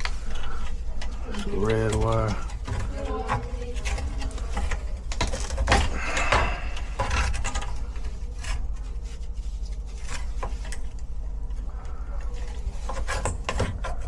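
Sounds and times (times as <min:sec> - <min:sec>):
rustling scrape: 0:00.0 - 0:14.0
steady low hum: 0:00.0 - 0:14.0.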